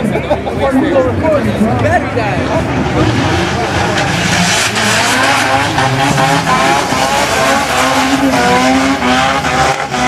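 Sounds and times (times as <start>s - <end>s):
race car engines revving: 0.0s - 10.0s.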